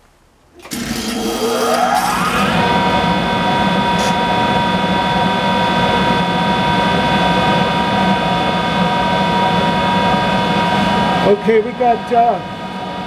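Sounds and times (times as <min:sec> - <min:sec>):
low hum: 0:00.0 - 0:13.0
motor-generator whine: 0:00.2 - 0:13.0.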